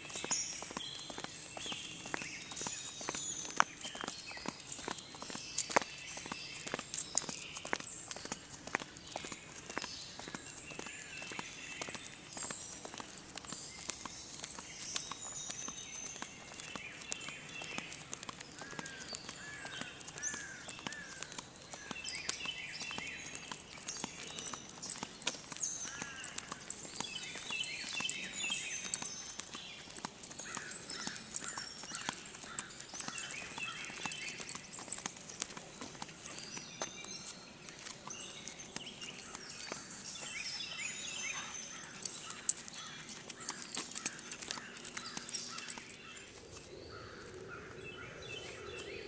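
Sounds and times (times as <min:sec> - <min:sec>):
footsteps on pavement: 0:00.0 - 0:49.0
wild birds singing: 0:00.0 - 0:49.0.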